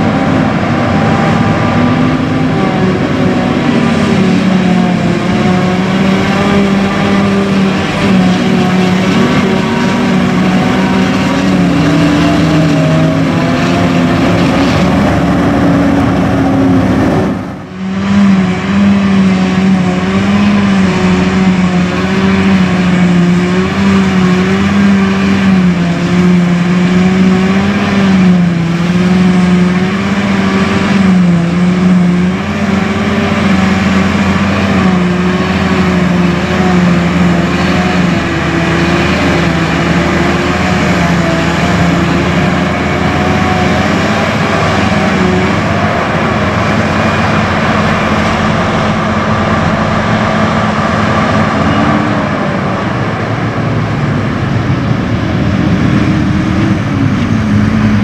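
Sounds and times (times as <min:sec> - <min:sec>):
forage harvester engine droning: 0:00.0 - 0:58.0.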